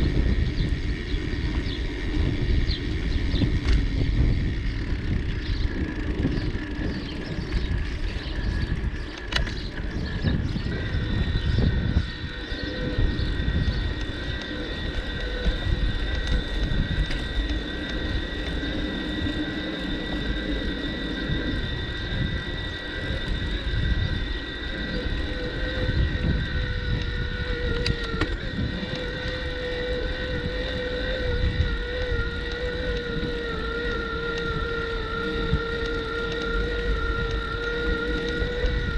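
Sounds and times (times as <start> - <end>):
bicycle tyres rumbling: 0.0 - 38.9
high whine: 0.0 - 38.9
wind on microphone: 0.0 - 38.9.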